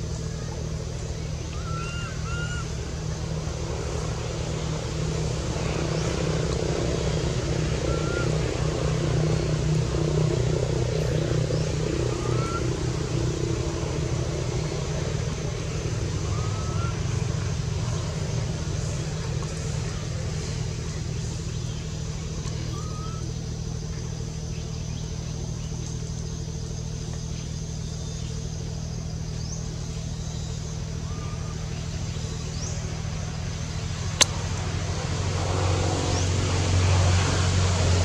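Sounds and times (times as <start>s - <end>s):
low engine hum: 0.0s - 38.0s.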